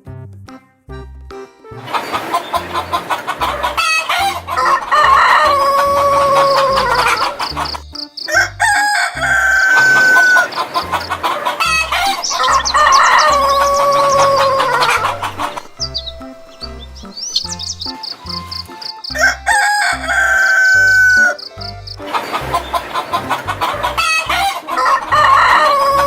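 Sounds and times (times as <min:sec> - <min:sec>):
rooster crowing: 0:01.9 - 0:17.9, 0:19.0 - 0:26.0.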